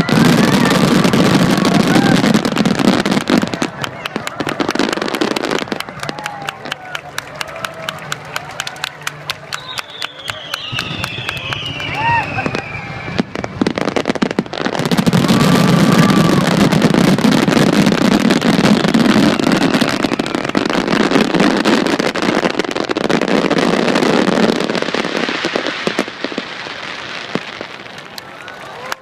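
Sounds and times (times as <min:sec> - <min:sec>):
fireworks crackling barrage: 0:00.0 - 0:29.0.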